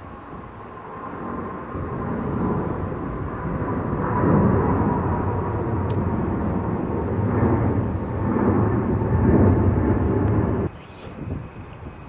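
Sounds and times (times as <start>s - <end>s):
faint steady whine: 0.0s - 12.0s
jet engine rumble: 0.0s - 12.0s.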